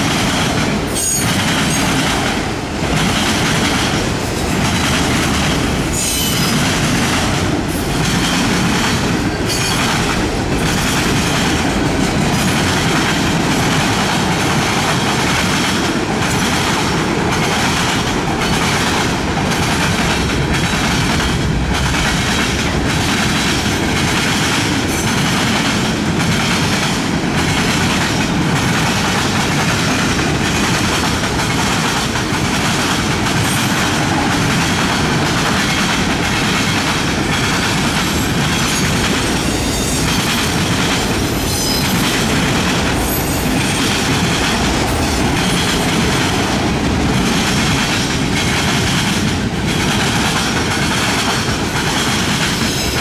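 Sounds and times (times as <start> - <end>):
train wheels rumbling on rail: 0.0 - 53.0
wheels clickety-clack: 0.0 - 53.0.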